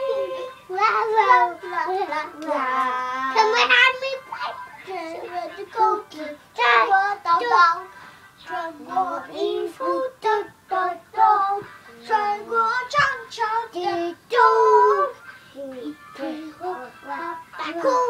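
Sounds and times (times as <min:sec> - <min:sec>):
young child singing: 0:00.0 - 0:18.0.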